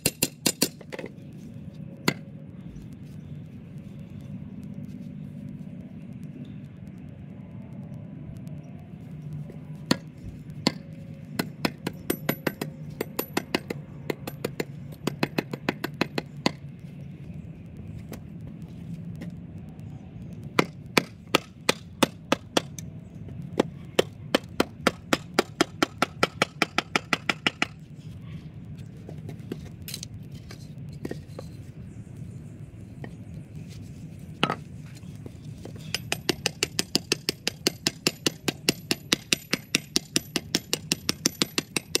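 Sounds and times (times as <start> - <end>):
low hum: 0.6 - 36.7.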